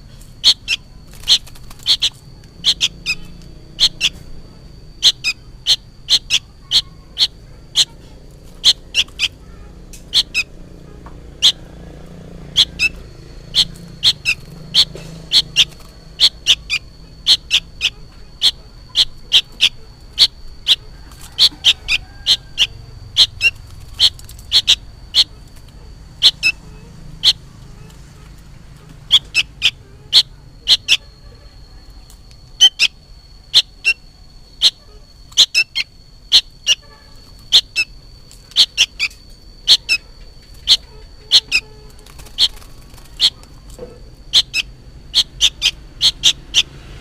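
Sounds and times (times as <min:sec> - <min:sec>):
young bird chirping: 0:00.1 - 0:04.3, 0:05.0 - 0:11.8, 0:12.4 - 0:28.0, 0:29.0 - 0:31.1, 0:32.6 - 0:46.8.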